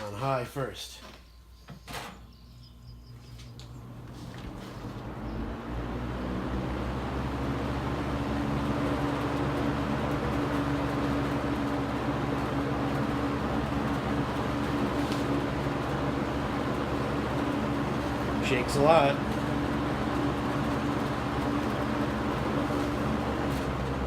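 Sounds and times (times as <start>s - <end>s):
box fan humming with rushing air: 0.0s - 24.0s
fan shaking: 3.6s - 24.0s.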